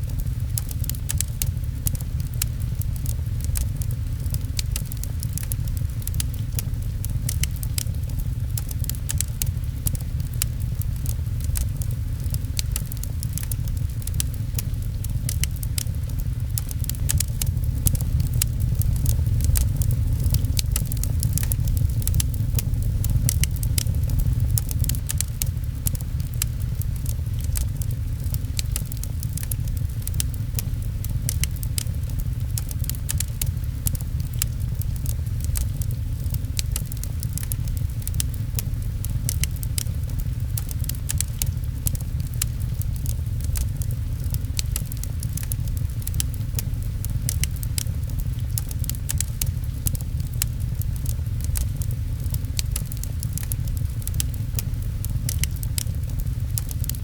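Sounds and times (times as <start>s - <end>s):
low rumble: 0.0s - 57.0s
pattering rain: 0.0s - 57.0s
wood fire crackling and popping: 0.0s - 57.0s.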